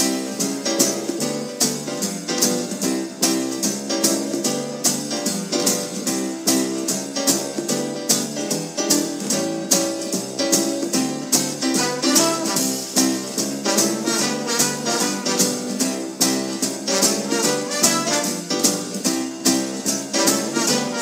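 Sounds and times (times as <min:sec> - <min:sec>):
background music with beat: 0:00.0 - 0:21.0.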